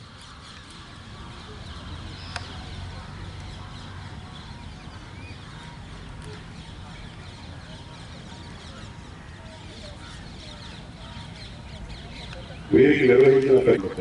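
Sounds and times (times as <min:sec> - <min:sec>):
faint bird calls: 0:00.2 - 0:14.0.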